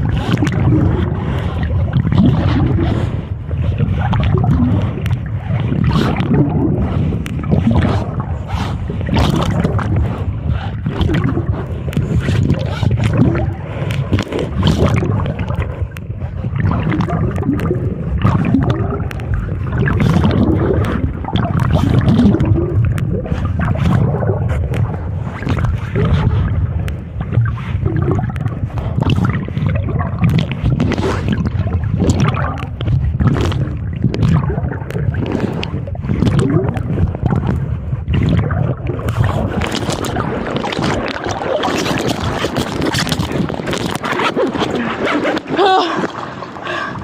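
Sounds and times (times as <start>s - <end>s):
water splashing and sloshing: 0.0s - 47.0s
wind buffeting microphone: 0.0s - 47.0s.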